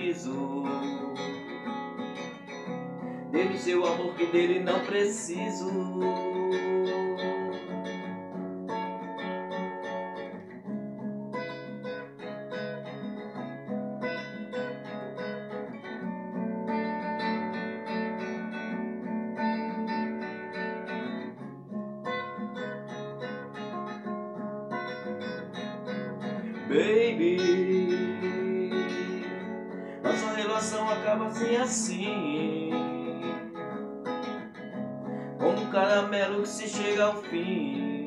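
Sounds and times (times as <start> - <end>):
acoustic guitar strumming chords: 0.0 - 38.0.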